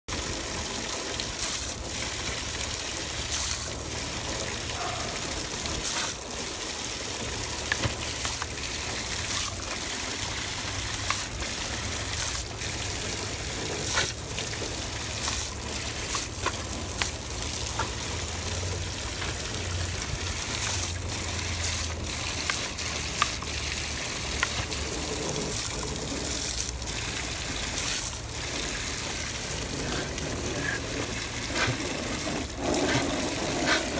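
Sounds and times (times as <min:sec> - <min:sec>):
garden hose water splashing: 0:00.1 - 0:33.9
dog biting at water stream: 0:04.7 - 0:33.9.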